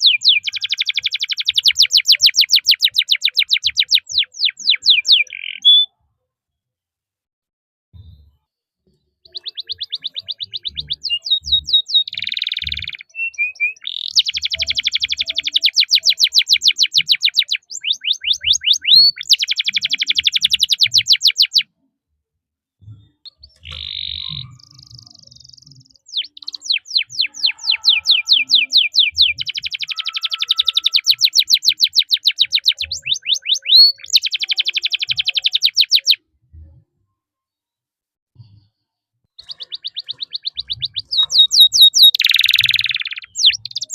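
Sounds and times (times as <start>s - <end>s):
canary trilling song: 0.0s - 6.0s, 9.2s - 21.7s, 22.9s - 36.3s, 39.3s - 43.9s.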